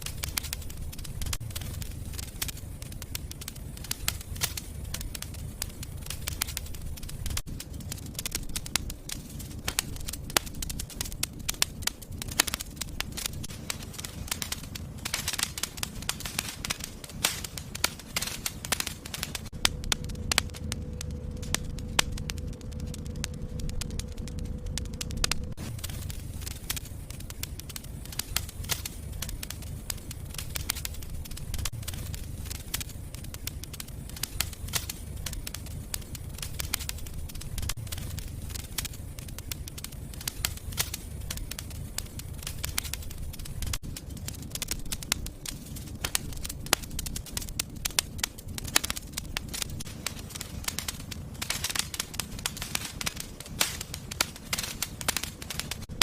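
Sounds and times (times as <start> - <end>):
fire flames rumbling: 0.0 - 56.0
wood fire crackling and popping: 0.0 - 56.0.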